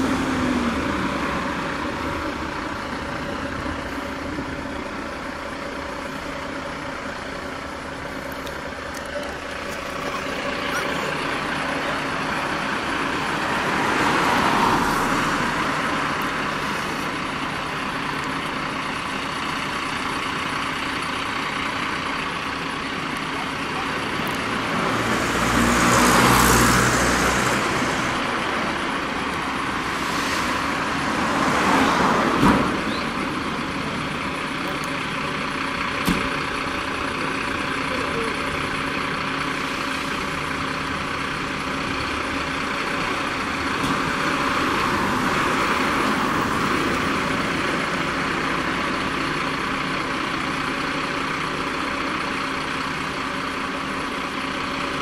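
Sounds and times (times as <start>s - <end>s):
vehicle engines idling: 0.0s - 55.0s.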